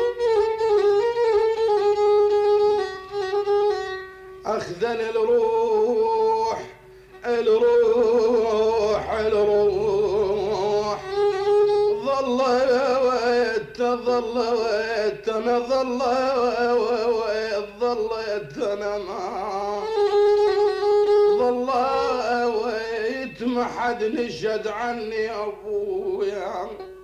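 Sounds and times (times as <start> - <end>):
violin melody with vibrato: 0.0 - 27.0.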